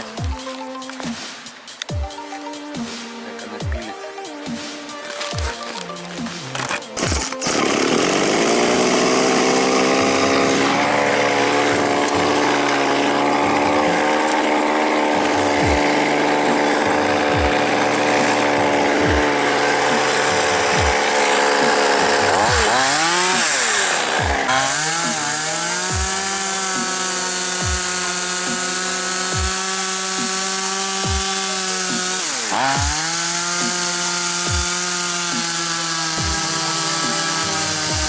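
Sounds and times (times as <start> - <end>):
chainsaw cutting wood: 0.0 - 38.0.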